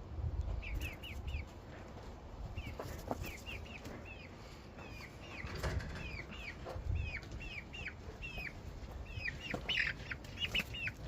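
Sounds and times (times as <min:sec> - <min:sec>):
bird chirping: 0:00.6 - 0:01.5, 0:02.5 - 0:11.0.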